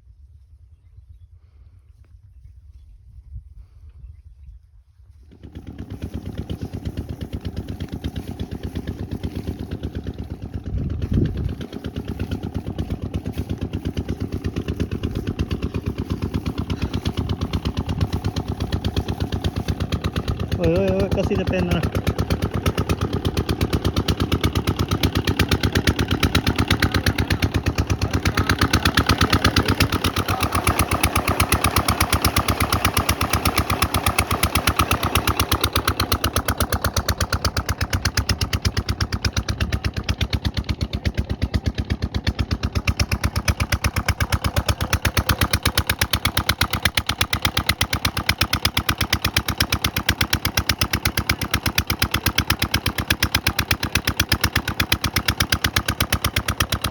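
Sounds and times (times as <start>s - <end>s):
engine running steadily: 5.0s - 56.9s.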